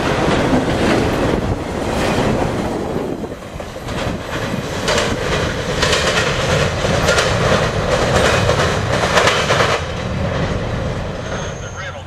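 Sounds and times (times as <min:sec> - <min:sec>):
train wheels clacking over joints: 0:00.0 - 0:11.8
freight train rumble: 0:00.0 - 0:12.0.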